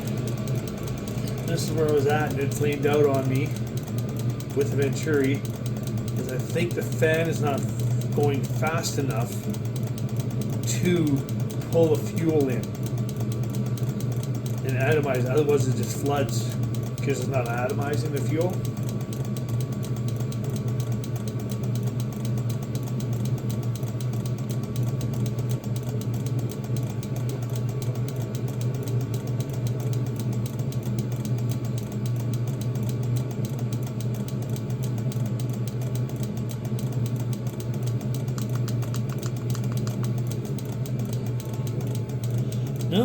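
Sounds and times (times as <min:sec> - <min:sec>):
fast mechanical ticking: 0:00.0 - 0:43.0
heater blower hum: 0:00.0 - 0:43.0.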